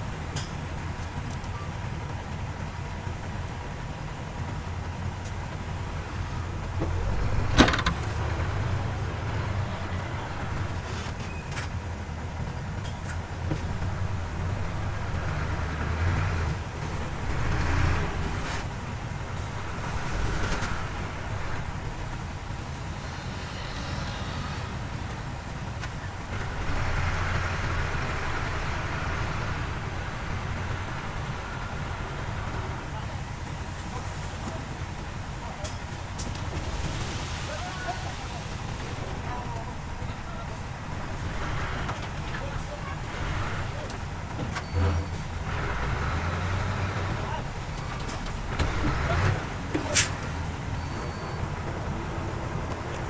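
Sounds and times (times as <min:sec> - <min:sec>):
heavy diesel engine rumbling: 0:00.0 - 0:53.0.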